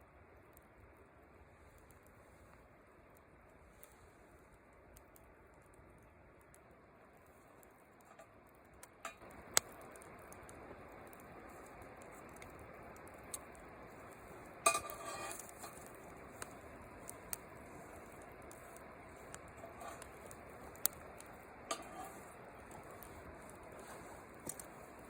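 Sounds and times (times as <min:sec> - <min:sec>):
faint patter with small clicks: 0:00.4 - 0:25.0.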